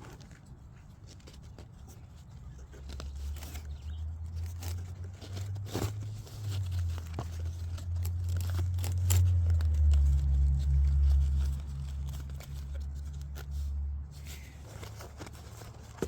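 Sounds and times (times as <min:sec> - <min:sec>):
gear clicks and rustles: 0:00.0 - 0:16.0.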